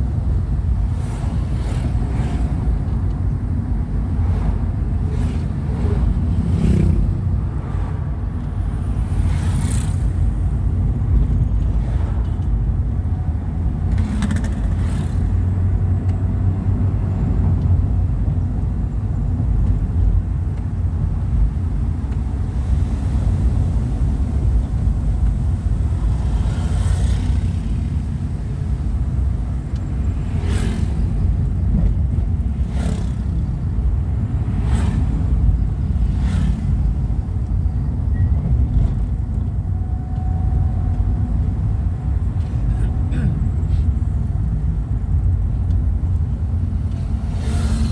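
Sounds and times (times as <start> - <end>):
vehicle rumble in motion: 0.0 - 47.9.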